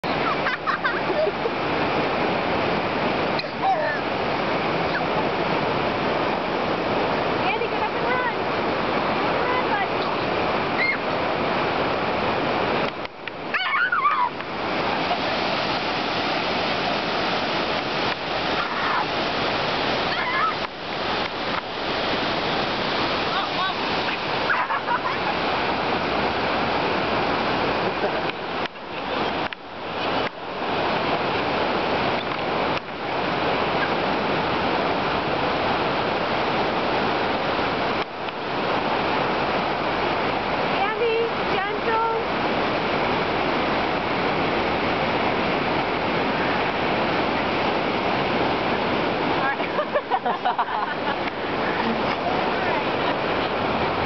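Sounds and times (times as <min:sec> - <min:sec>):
beach surf rushing: 0:00.0 - 0:54.0.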